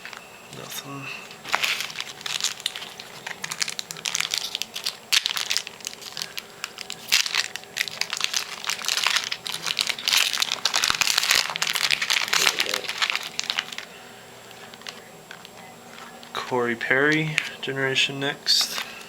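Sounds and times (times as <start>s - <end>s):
foil wrapper crinkling: 0.0s - 17.7s, 18.4s - 19.0s.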